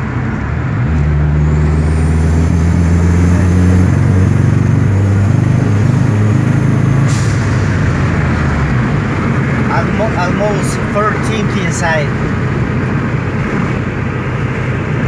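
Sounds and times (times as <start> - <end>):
car engine drone from cabin: 0.0 - 15.0.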